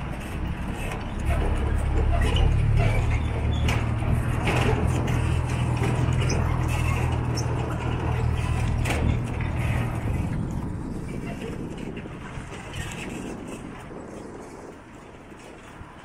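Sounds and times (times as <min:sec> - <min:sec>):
carriages knocking and rattling: 0:00.0 - 0:16.0
road train engine droning: 0:00.0 - 0:16.0.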